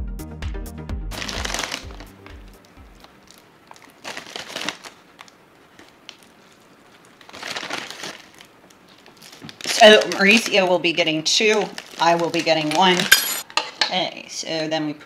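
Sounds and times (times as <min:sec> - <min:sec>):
plastic bag crinkling: 0:01.1 - 0:13.5.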